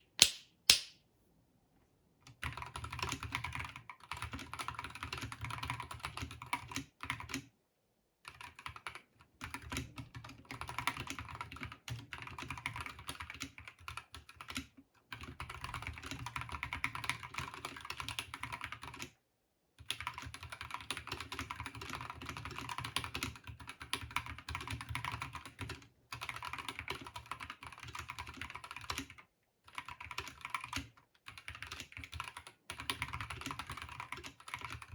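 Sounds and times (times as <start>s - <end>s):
mechanical keyboard typing: 2.3s - 7.4s, 8.3s - 19.1s, 19.8s - 34.9s.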